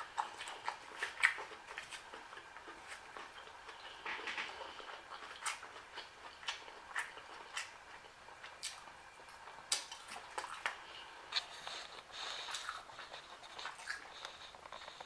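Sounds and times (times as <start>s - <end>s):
wet smacking and chewing: 0.0s - 15.0s.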